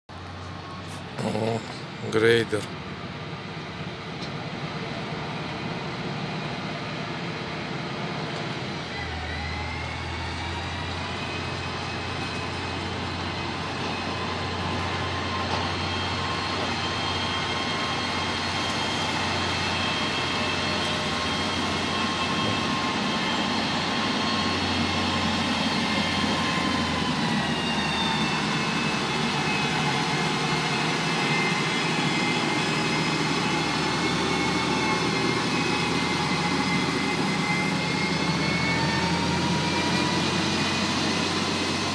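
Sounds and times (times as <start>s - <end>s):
diesel engine with high whine: 0.1s - 41.9s.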